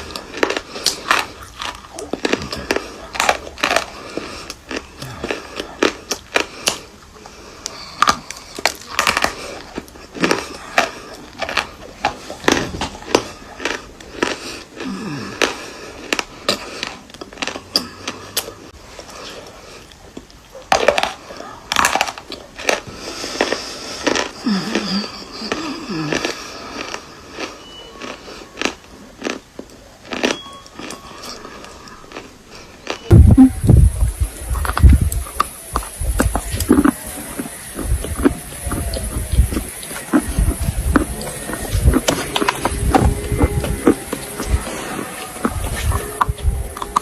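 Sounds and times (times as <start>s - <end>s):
chalky pieces crunched by biting: 0.0s - 47.0s.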